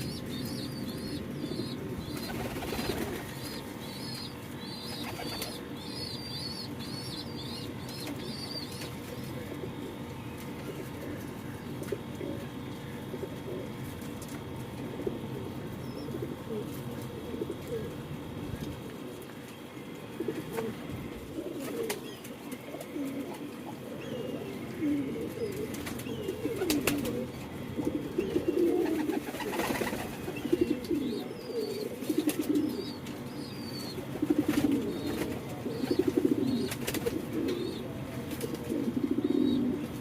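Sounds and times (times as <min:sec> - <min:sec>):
pigeons cooing: 0:00.0 - 0:40.0.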